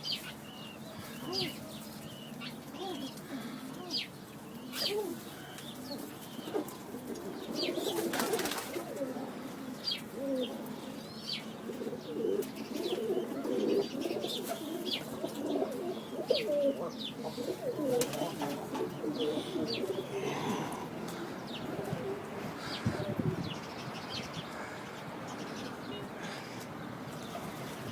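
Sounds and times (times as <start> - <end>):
pigeons cooing: 0.0 - 27.9
small birds chirping: 0.0 - 27.9.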